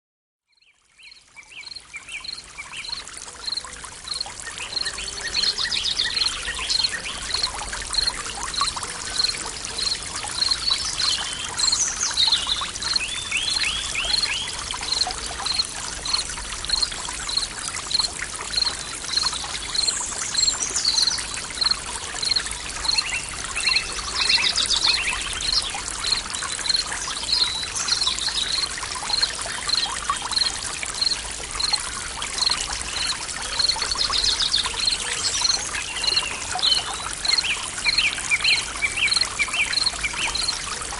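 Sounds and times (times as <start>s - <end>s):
stream water trickling: 0.5s - 40.9s.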